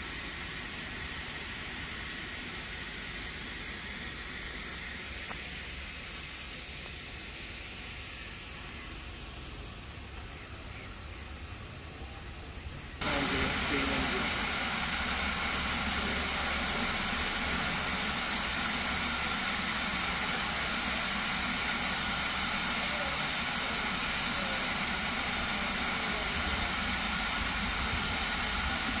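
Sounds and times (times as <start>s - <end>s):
steam hissing from locomotive: 0.0s - 29.0s.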